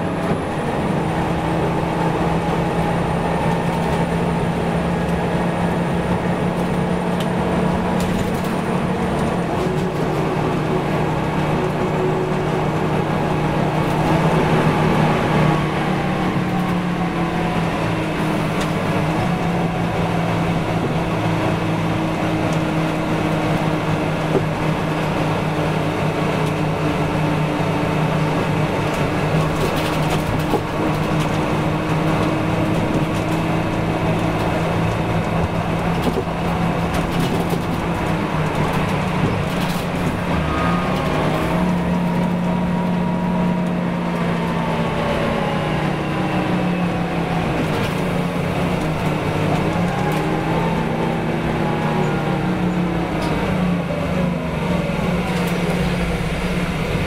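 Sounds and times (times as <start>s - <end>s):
bus engine hum: 0.0s - 57.0s.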